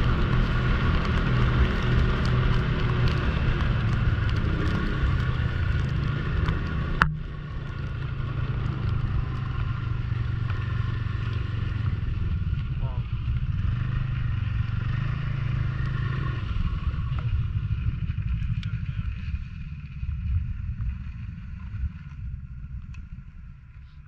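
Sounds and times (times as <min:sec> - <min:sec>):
microphone rumble: 0:00.0 - 0:24.0
snowmobile engine running: 0:00.0 - 0:24.0.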